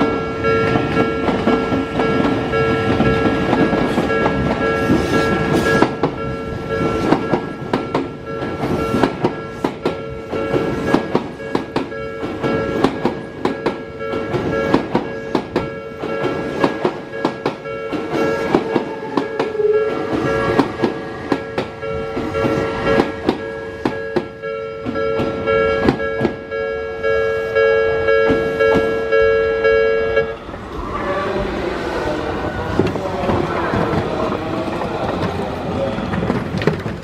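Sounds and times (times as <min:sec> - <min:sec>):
train wheels clacking over rail joints: 0:00.0 - 0:26.5, 0:32.7 - 0:37.0
level-crossing warning bell: 0:00.0 - 0:30.5.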